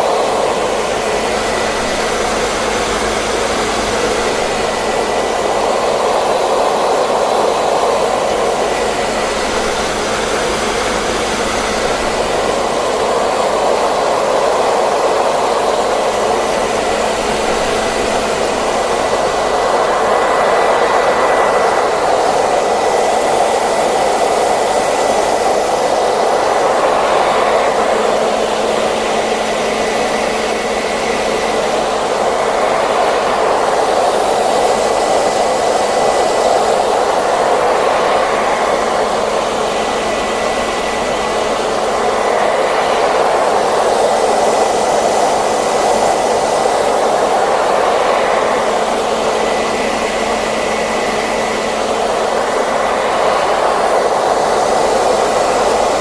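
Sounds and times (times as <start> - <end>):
hair dryer blowing air: 0.0 - 56.0
high motor whine: 0.0 - 56.0.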